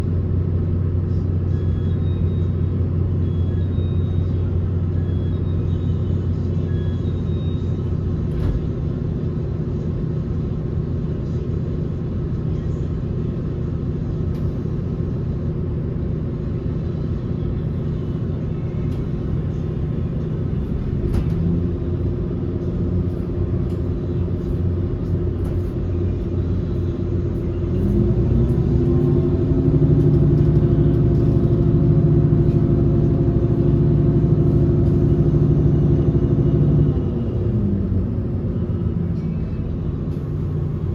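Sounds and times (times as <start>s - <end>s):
electric train hum: 0.0s - 40.9s.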